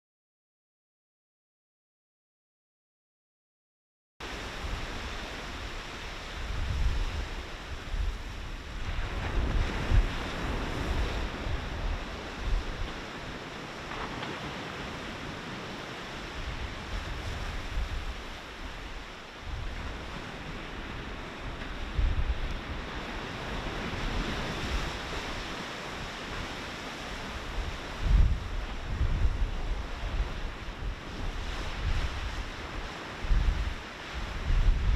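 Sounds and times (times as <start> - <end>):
sea surf washing on shore: 4.2 - 34.9
wind gusting on microphone: 4.2 - 34.9.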